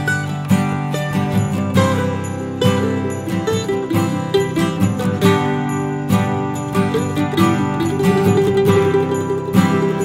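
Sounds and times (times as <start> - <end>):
plucked string instrument music: 0.0 - 10.0.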